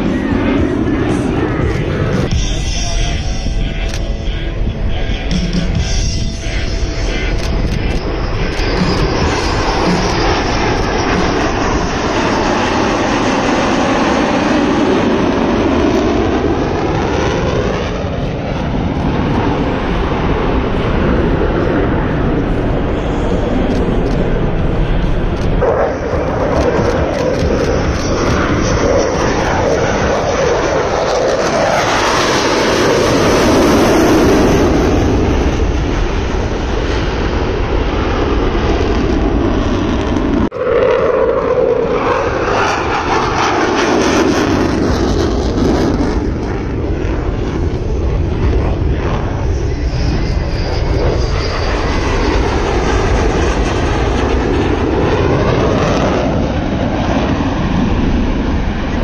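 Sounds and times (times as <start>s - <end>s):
fighter jet passing overhead: 0.0s - 59.0s.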